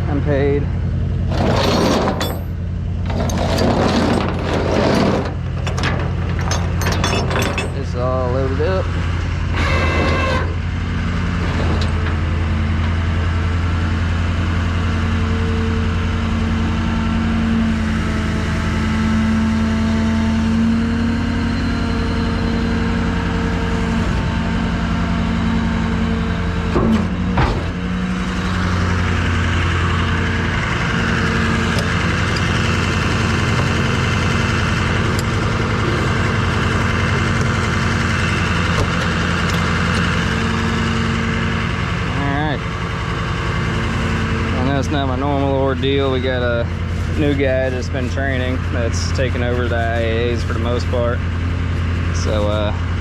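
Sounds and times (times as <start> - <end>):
tow truck engine hum: 0.0 - 53.0.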